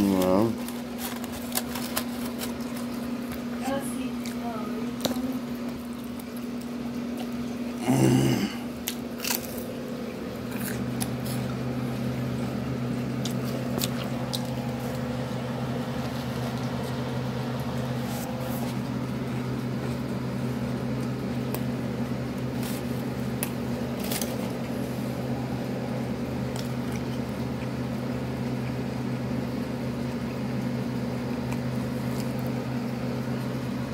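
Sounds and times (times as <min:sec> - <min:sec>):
chewing sandwich: 0:00.0 - 0:03.6, 0:04.2 - 0:33.9
low electrical hum: 0:00.0 - 0:33.9.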